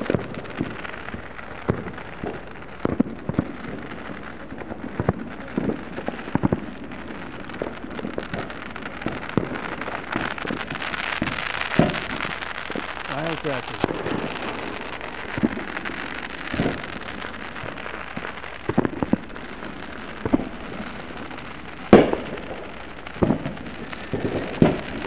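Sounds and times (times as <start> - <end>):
firecrackers popping and banging: 0.0 - 25.0
steady hiss: 0.0 - 25.0.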